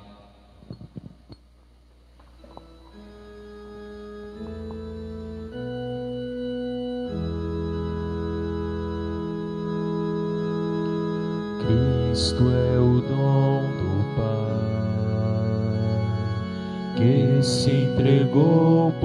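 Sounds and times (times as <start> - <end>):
organ chords: 0.0 - 19.0.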